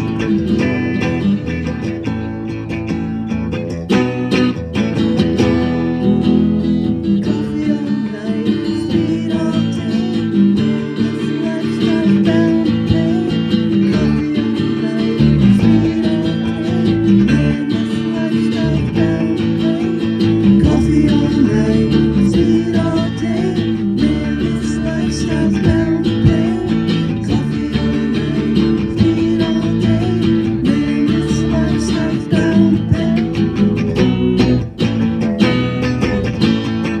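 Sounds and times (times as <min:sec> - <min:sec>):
bass line: 0:00.0 - 0:37.0
strummed guitars: 0:00.0 - 0:37.0.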